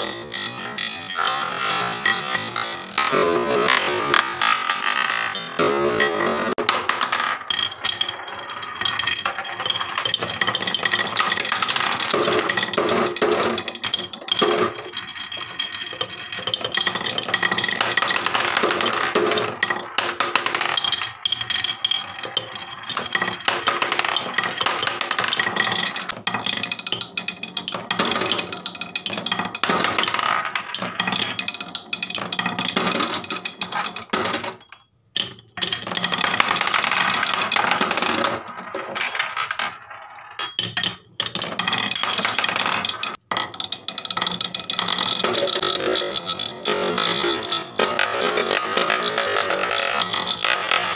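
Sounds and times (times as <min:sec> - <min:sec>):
marbles rolling on wooden tracks: 0:00.0 - 0:50.9.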